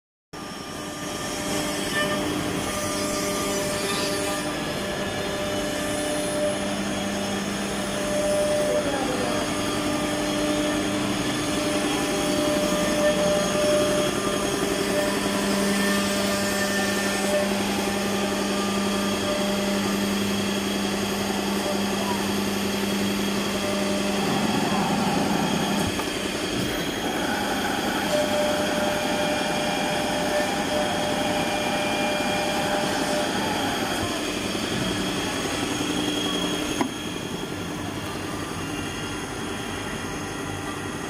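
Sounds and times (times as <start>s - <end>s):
drilling machine hum and whine: 0.4s - 41.0s.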